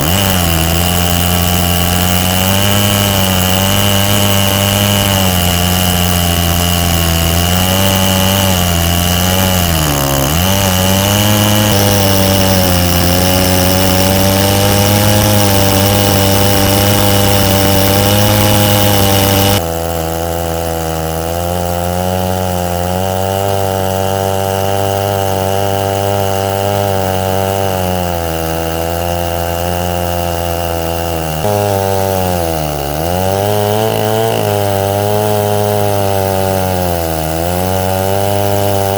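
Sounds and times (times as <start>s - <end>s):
chainsaw cutting hardwood: 0.0s - 38.9s.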